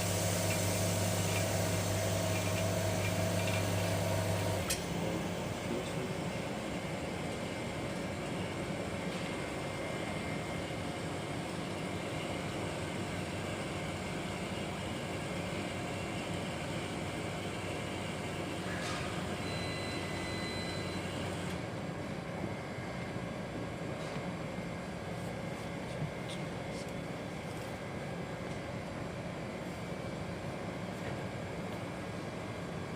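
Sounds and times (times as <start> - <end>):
machinery humming and hissing: 0.0 - 32.9.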